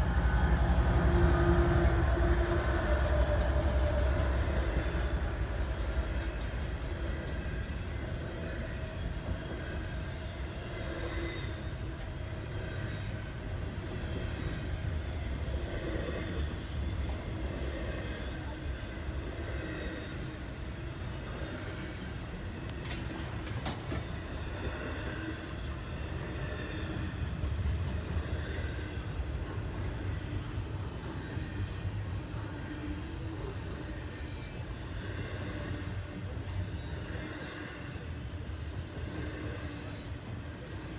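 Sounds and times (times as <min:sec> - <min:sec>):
freight train rumbling on rails: 0:00.0 - 0:40.9.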